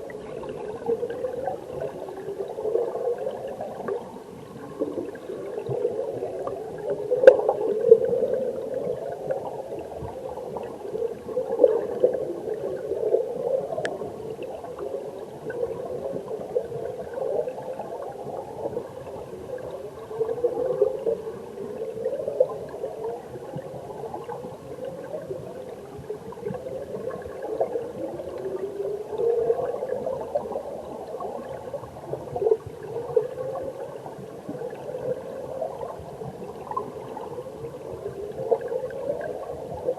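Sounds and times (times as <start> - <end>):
underwater stream bubbling: 0.0 - 39.9.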